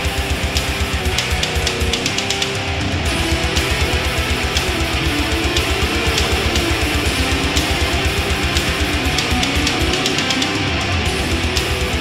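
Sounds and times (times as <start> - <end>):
fast steady drum beat: 0.0 - 12.0
guitar-driven rock music: 0.0 - 12.0.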